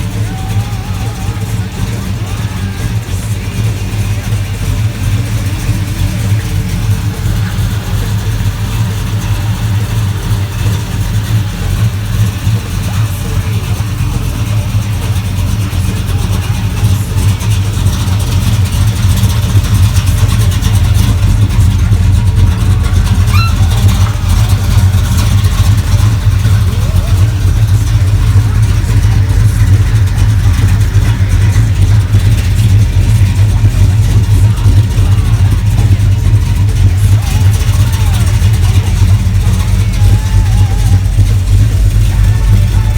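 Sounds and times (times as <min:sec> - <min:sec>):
car engine rumbling: 0:00.0 - 0:42.9.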